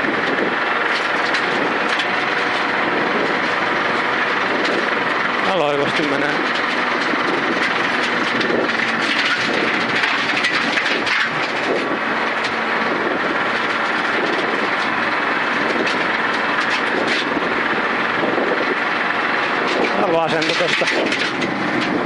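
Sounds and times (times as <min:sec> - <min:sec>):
car engine and road noise: 0:00.0 - 0:22.0
gravel hitting underbody: 0:00.8 - 0:22.0.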